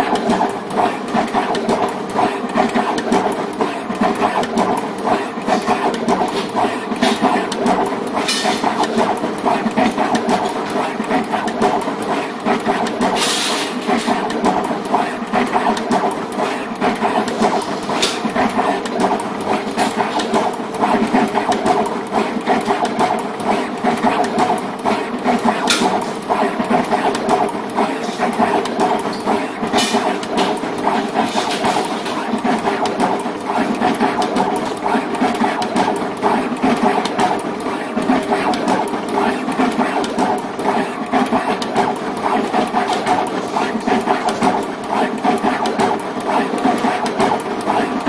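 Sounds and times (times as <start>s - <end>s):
machine clattering ticks: 0.0s - 13.2s, 13.8s - 31.1s, 32.0s - 48.0s.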